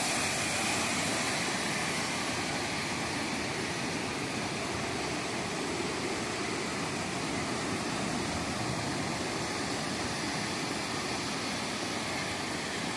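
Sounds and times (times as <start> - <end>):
small waves washing on sand: 0.0 - 12.9.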